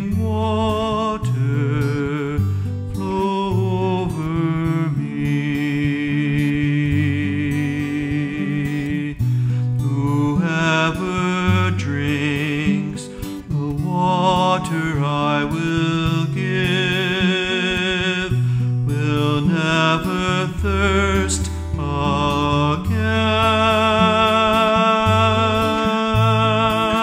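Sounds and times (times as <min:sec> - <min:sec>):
acoustic guitar: 0:00.0 - 0:27.0
man singing with vibrato: 0:00.0 - 0:27.0.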